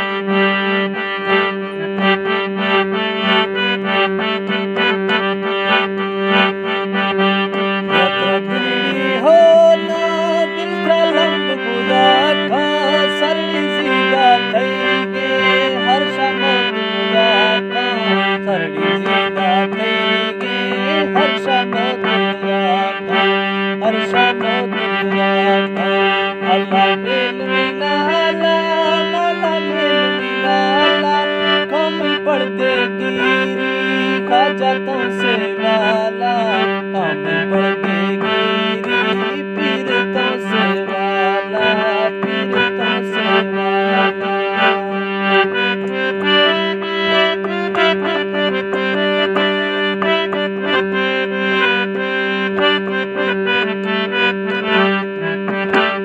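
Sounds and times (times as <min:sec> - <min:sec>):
folk melody over drone: 0:00.0 - 0:56.0.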